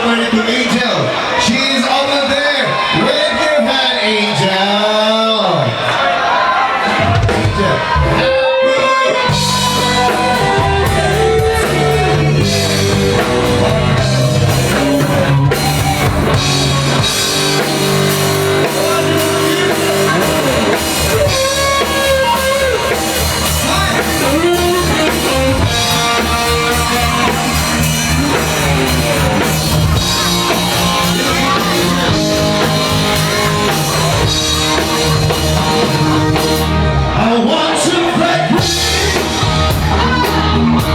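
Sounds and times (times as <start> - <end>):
live rock band with singing: 6.7 - 40.9.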